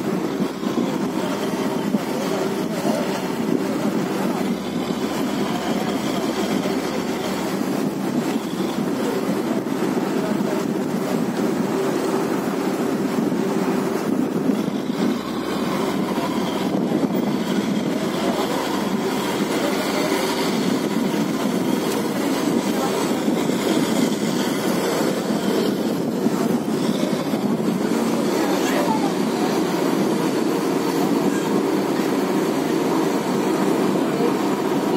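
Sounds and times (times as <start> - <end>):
ship engine rumble: 0.0 - 34.9
water rushing along hull: 0.0 - 34.9.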